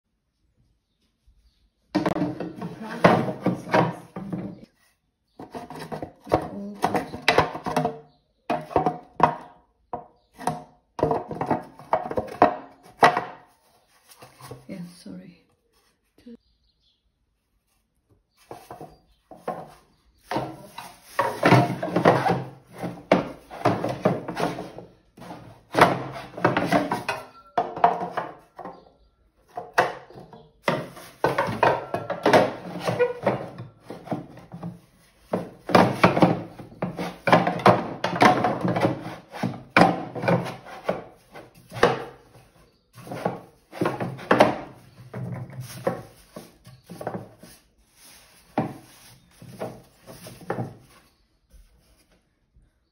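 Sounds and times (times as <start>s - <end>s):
plastic pan parts scraping: 2.0s - 9.6s, 10.3s - 14.7s, 18.3s - 28.8s, 29.5s - 51.2s.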